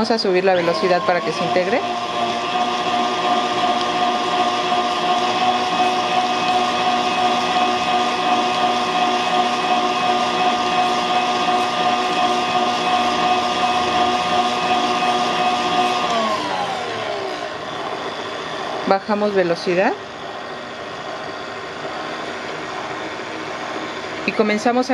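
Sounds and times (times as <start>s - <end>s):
stand mixer whining: 0.0s - 24.9s.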